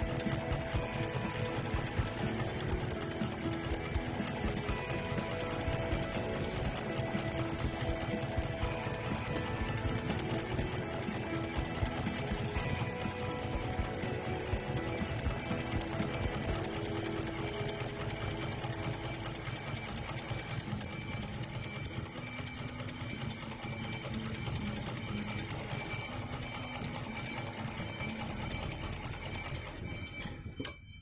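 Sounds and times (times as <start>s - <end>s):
sewing machine needle running fast: 0.0s - 30.3s.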